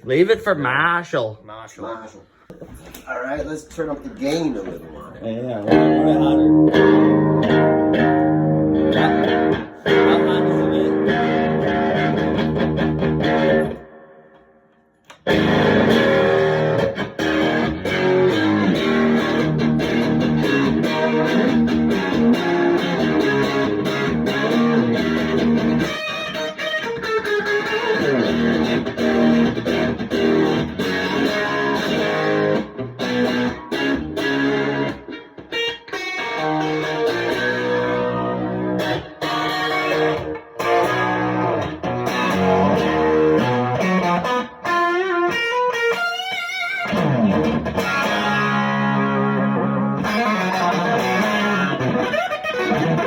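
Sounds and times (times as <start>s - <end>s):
electric guitar riffs: 4.5s - 53.0s.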